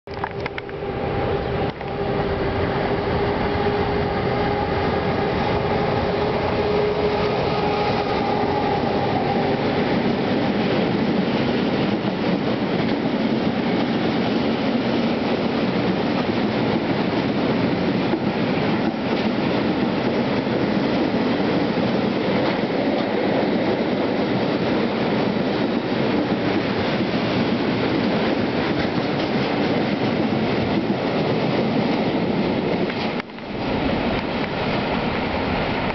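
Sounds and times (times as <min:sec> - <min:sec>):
train wheels rumbling on rails: 0:00.1 - 0:35.9.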